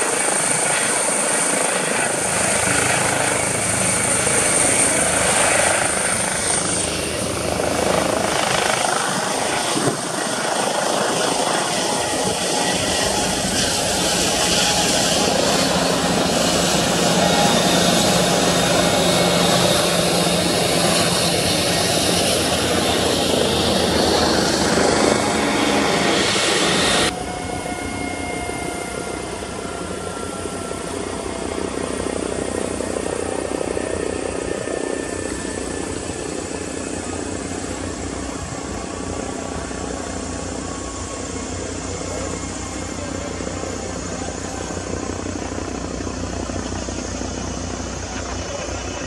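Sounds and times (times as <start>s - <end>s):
faint turbine whine: 0.0s - 49.0s
helicopter rotor and turbine: 0.0s - 49.0s.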